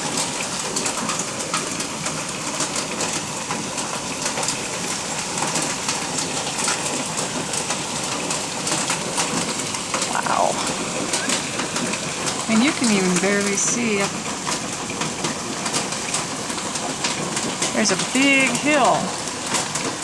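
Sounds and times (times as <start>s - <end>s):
hailstones ticking: 0.0s - 20.0s
heavy rain: 0.0s - 20.0s.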